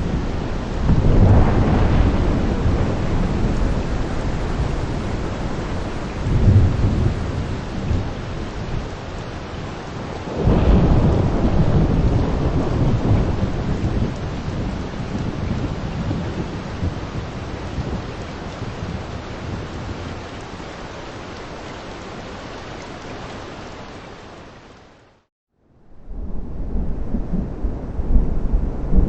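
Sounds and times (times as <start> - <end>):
thunder rumbling: 0.0 - 20.5, 25.8 - 29.0
heavy rain: 0.0 - 25.3, 26.0 - 29.0.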